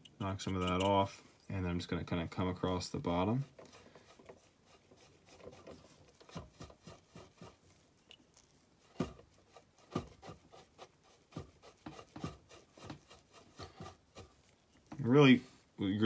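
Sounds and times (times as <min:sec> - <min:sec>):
paintbrush tapping and scrubbing: 0:01.8 - 0:15.4.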